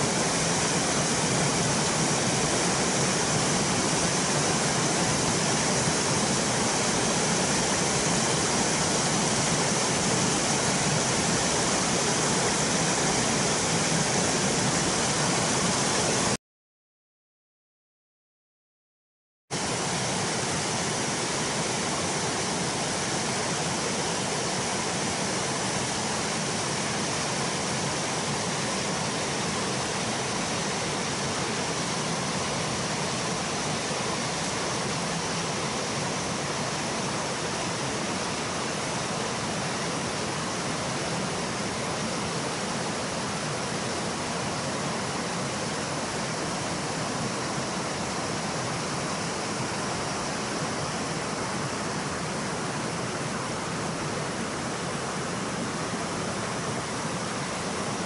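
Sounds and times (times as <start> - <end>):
stream rushing over boulders: 0.0 - 16.4, 19.6 - 58.0.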